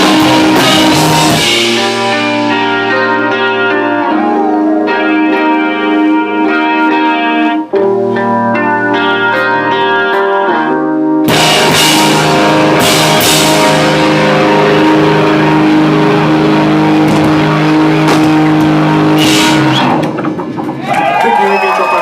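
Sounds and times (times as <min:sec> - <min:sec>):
guitar chord ringing: 0:00.0 - 0:20.0
rock band playing held chord: 0:00.0 - 0:21.3.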